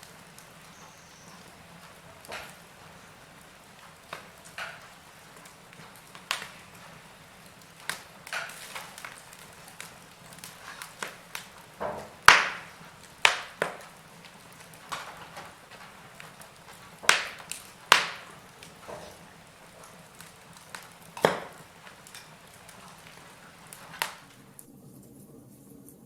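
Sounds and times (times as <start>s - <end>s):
wood fire crackling and popping: 0.0s - 24.7s
faint fire hiss: 0.0s - 26.0s.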